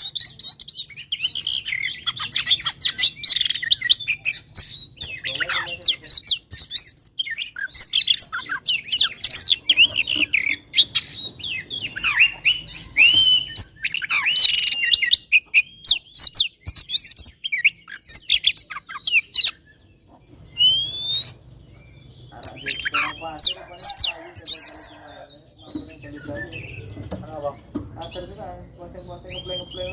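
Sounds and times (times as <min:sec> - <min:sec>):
bird singing whistles and chirps: 0:00.0 - 0:29.9.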